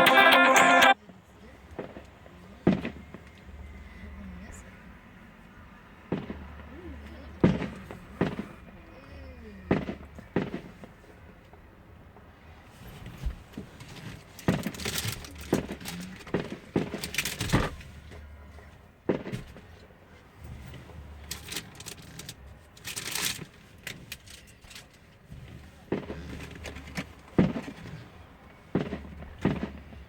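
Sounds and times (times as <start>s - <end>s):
muffled fireworks bangs: 1.6s - 30.0s.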